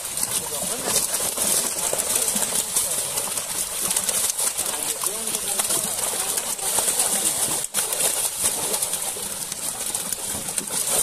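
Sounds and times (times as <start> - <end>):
fish thrashing in water: 0.0 - 11.0.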